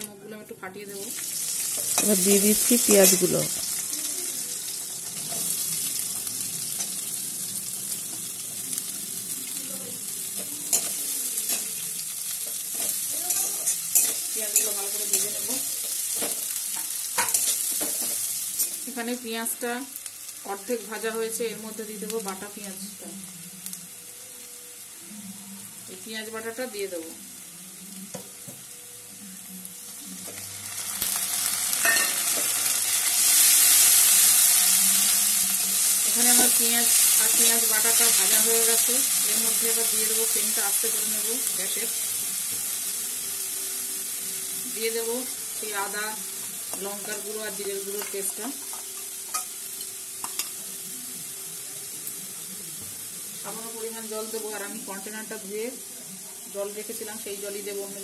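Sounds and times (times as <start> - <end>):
onions sizzling in oil: 0.0 - 58.0.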